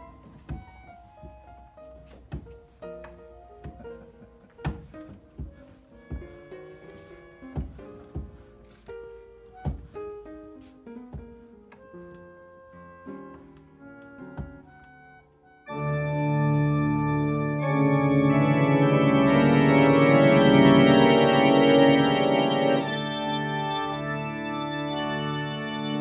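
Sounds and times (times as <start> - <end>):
pump organ playing chords: 0.0 - 10.6, 11.2 - 26.0.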